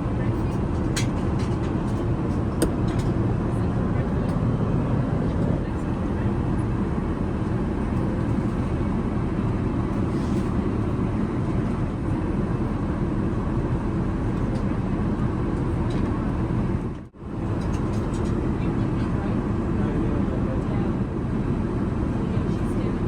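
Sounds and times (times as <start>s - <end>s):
airliner cabin rumble: 0.0s - 23.0s.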